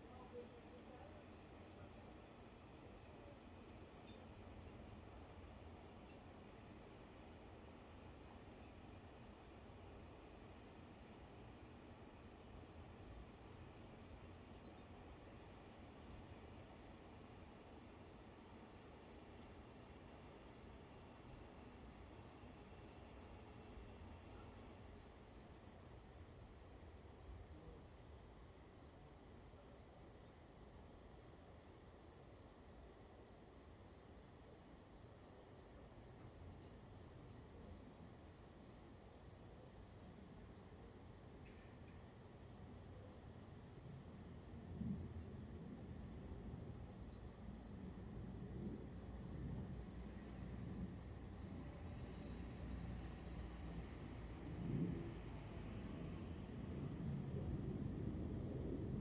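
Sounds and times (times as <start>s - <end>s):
cricket chirping: 0.1s - 59.0s.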